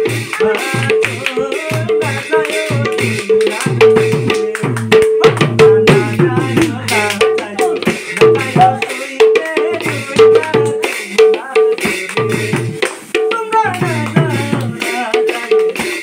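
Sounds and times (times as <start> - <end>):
hand drum rhythm: 0.0 - 16.0.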